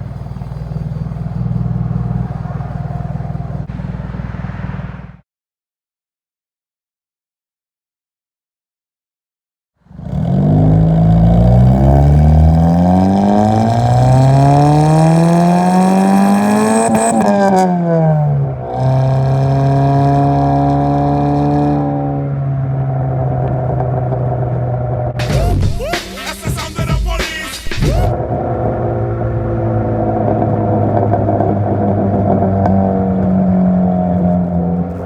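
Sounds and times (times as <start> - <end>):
car exhaust revving: 0.0 - 5.2, 9.9 - 35.0.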